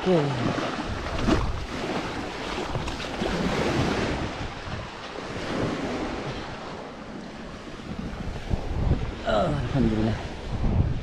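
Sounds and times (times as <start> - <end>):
sea waves breaking: 0.0 - 11.0
wind rumbling on microphone: 0.0 - 11.0.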